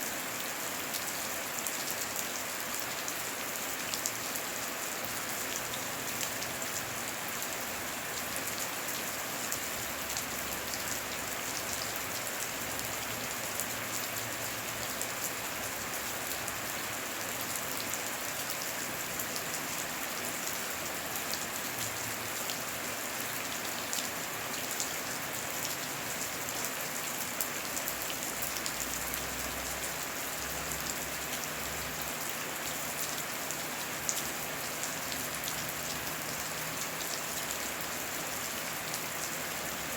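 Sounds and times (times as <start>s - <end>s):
heavy rain with ticking drops: 0.0s - 39.9s.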